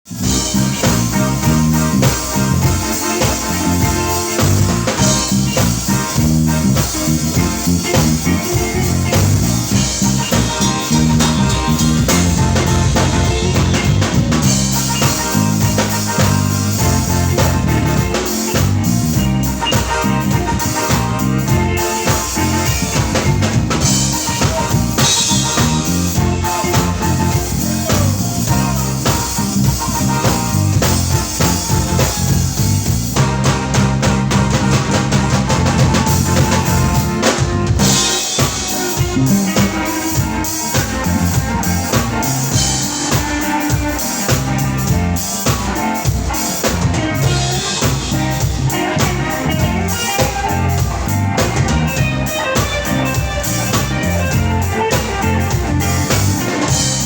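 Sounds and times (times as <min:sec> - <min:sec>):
busy low bass line: 0:00.0 - 0:57.0
guitar: 0:00.0 - 0:57.0
drum kit: 0:00.1 - 0:57.0.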